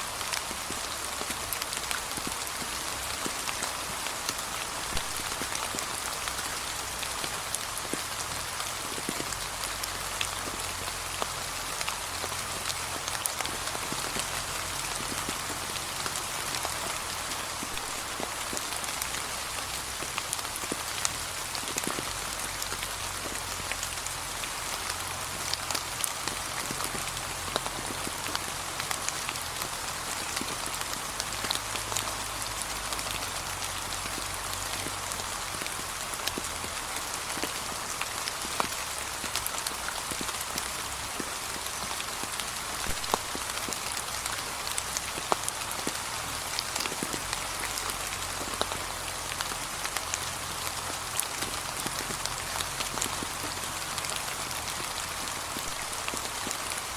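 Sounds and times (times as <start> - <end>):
light rain falling: 0.0 - 56.9.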